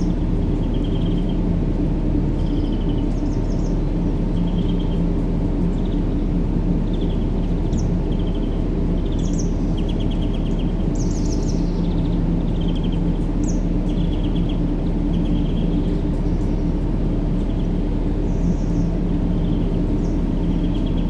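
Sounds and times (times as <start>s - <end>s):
faint constant hum: 0.0s - 21.0s
low rumbling background noise: 0.0s - 21.0s
small birds chirping: 0.0s - 21.0s.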